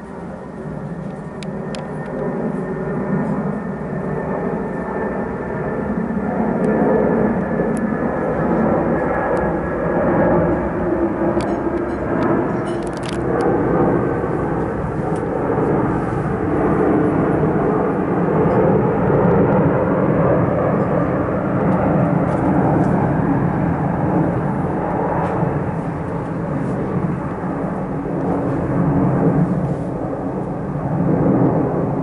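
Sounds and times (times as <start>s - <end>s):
jet engines at climb power: 0.0s - 32.0s.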